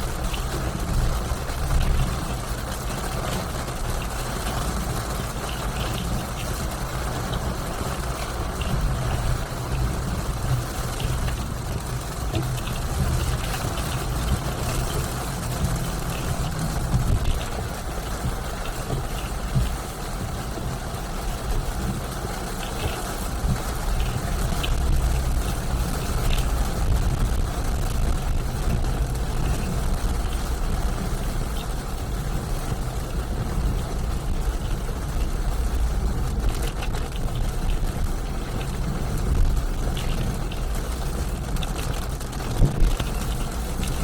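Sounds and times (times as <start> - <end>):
car engine and road rumble: 0.0 - 44.0
hiss of rain and wet road: 0.0 - 44.0.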